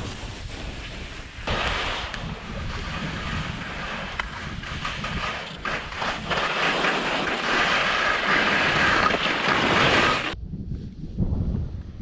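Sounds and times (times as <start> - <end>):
skis hissing through snow: 0.0 - 10.4
wind rumble on microphone: 0.0 - 12.0.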